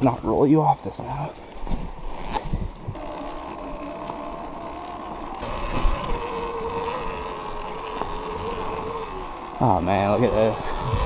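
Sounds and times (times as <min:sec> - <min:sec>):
rattling trail noise: 0:00.0 - 0:11.0
electric dirt bike motor whining: 0:01.4 - 0:11.0.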